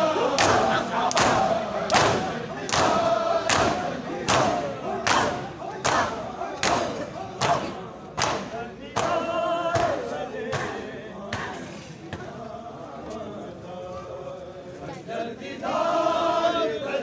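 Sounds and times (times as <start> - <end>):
group chanting a lament: 0.0 - 17.0.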